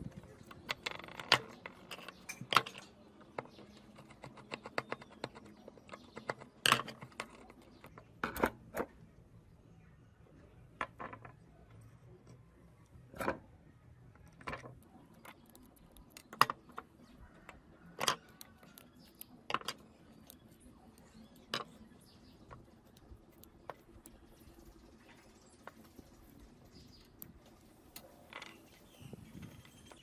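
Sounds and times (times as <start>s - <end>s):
small plastic parts clicking: 0.1s - 8.9s, 14.1s - 30.0s.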